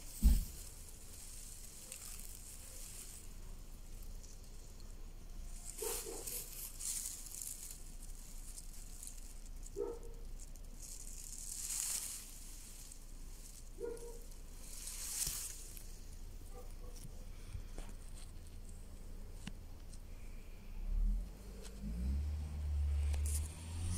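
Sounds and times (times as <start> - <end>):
dry leaves rustling: 0.0 - 20.5.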